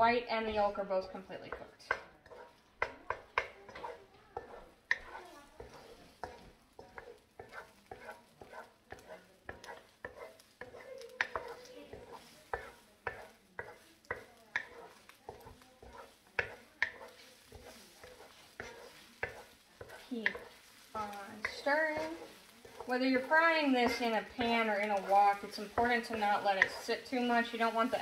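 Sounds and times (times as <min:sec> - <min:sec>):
eggs sizzling: 0:00.0 - 0:28.0
spatula scraping a wok: 0:00.3 - 0:28.0.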